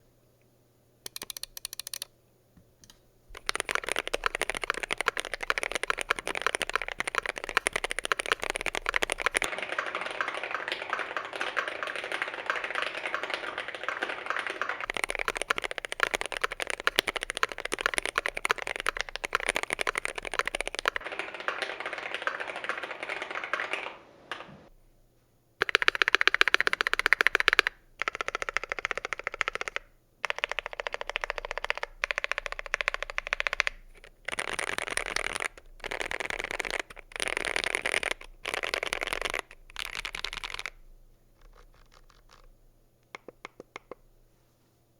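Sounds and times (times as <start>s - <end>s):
fast typing on mechanical keyboard: 1.1s - 2.1s, 3.4s - 24.0s, 25.6s - 40.8s, 41.4s - 42.5s.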